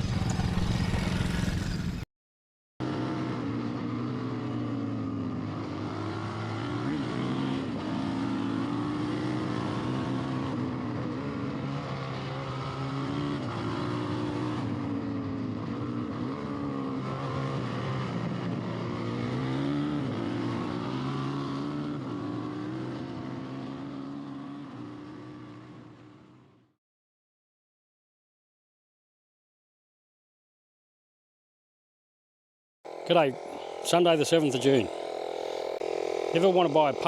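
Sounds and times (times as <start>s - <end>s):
engine running and revving: 0.0s - 2.0s, 2.8s - 26.7s, 32.9s - 37.0s.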